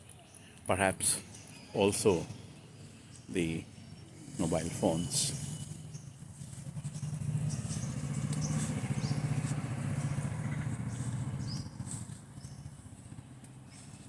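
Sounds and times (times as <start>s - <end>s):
sparrows chirping: 0.0s - 14.0s
vehicle engine passing by: 2.0s - 14.0s.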